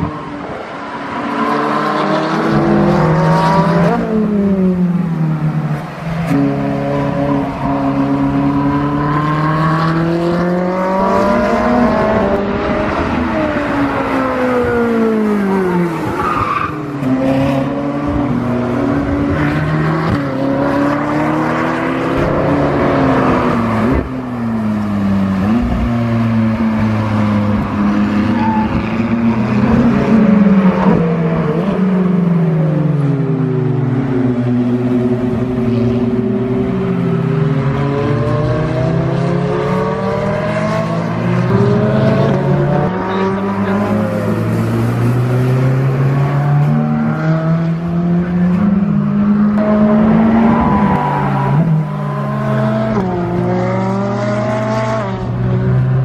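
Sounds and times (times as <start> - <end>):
sports car engines revving past: 0.0 - 56.0.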